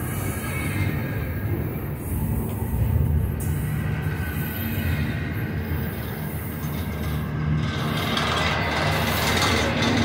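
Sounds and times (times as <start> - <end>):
rushing rattling noise: 0.0 - 10.0
train wheels rumbling on rails: 0.0 - 10.0.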